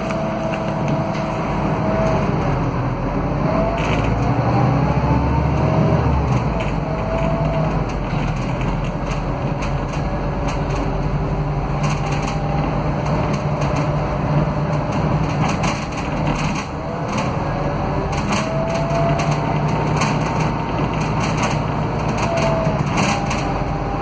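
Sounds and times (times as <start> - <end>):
bus interior rattles: 0.0 - 24.0
diesel engine droning: 0.0 - 24.0.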